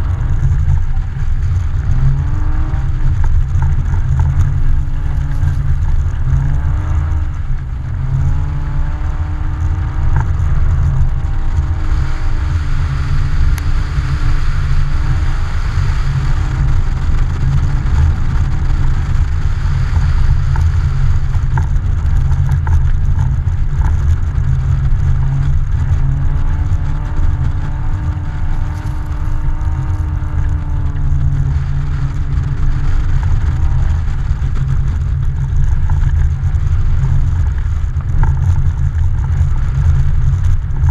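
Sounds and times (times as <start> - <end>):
car engine revving: 0.0 - 40.9
wind and road noise rumble: 0.0 - 40.9.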